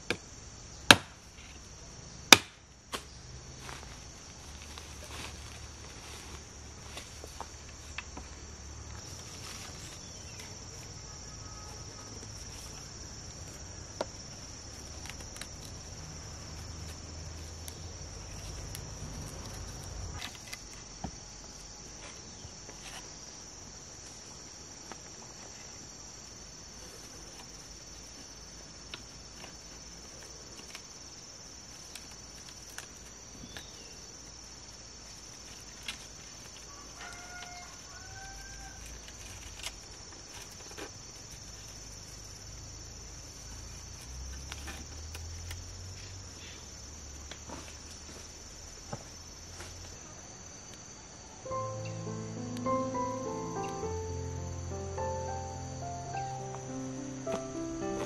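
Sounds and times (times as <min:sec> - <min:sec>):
insects shrilling: 0:03.1 - 0:24.2, 0:26.2 - 0:58.0.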